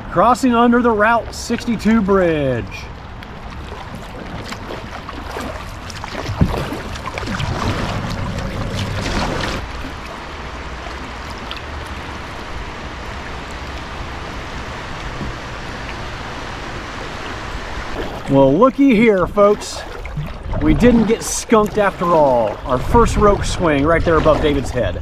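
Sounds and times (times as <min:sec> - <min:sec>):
moving water wash: 0:00.0 - 0:25.0
water splashing around paddle: 0:00.7 - 0:25.0.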